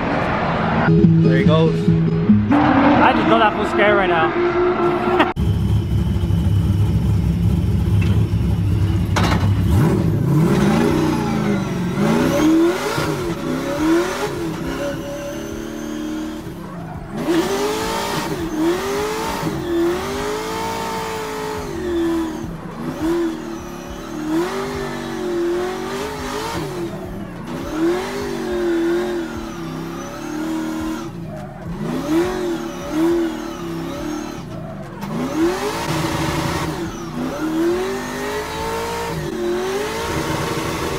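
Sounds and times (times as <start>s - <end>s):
car engine revving: 0.0s - 40.9s
tyre noise: 7.5s - 40.9s.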